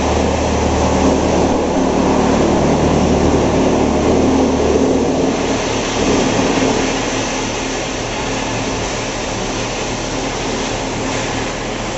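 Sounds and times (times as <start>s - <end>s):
wood chipper running: 0.0s - 11.9s.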